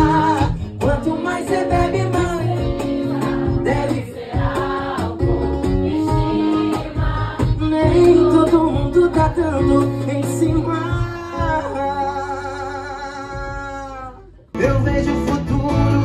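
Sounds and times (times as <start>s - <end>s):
person singing: 0.0s - 4.7s, 5.9s - 16.0s
accordion chords: 0.0s - 13.5s
acoustic guitar: 0.0s - 16.0s.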